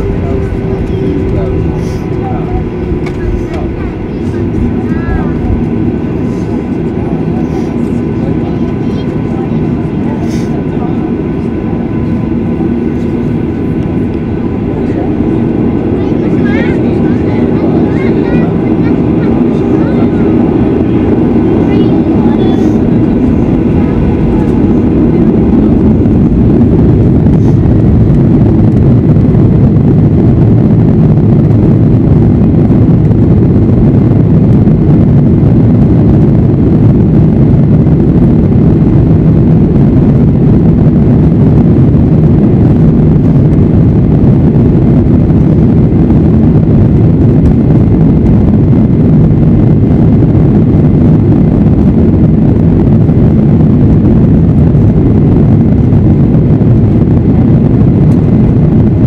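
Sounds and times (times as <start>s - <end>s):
jet engines deep rumble in cabin: 0.0s - 59.0s.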